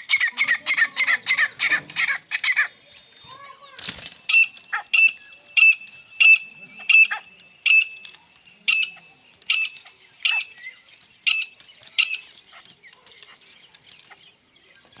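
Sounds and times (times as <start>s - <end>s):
partridge calling: 0.0s - 15.0s.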